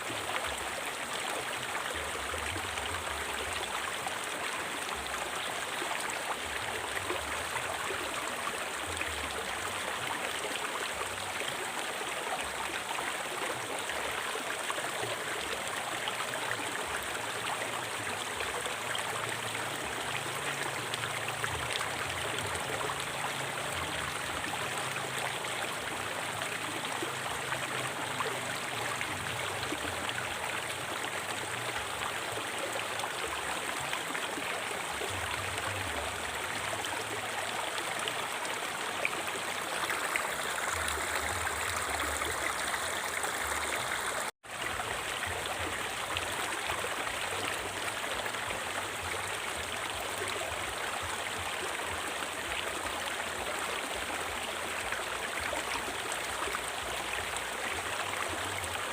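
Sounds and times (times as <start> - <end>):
river flowing over rocks: 0.0 - 58.9.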